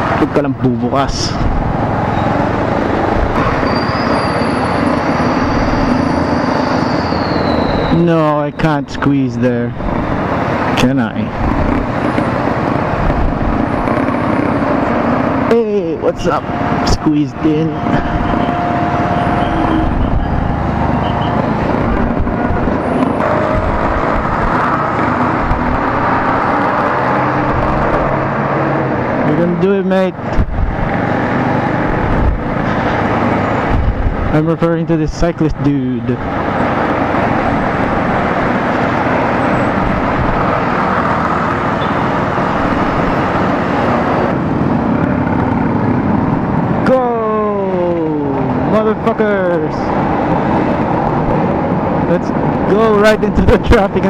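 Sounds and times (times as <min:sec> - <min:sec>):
road and wind noise: 0:00.0 - 0:54.0
surrounding traffic noise: 0:00.0 - 0:54.0.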